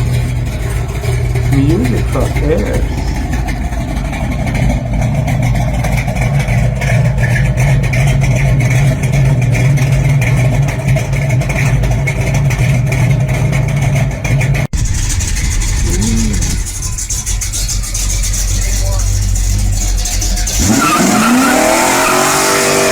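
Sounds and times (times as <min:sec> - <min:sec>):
car engine running loudly: 0:00.0 - 0:22.9.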